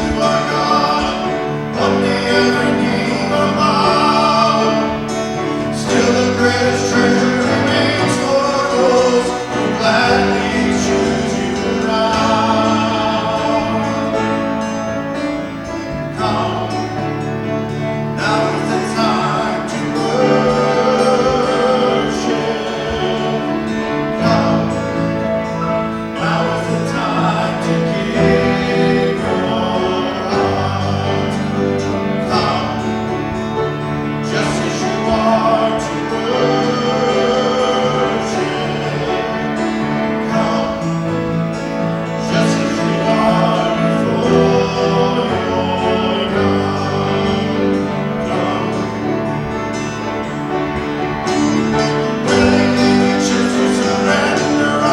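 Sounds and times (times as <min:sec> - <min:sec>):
guitar: 0:00.0 - 0:54.9
piano: 0:00.0 - 0:54.9
voices singing a hymn: 0:00.0 - 0:54.9.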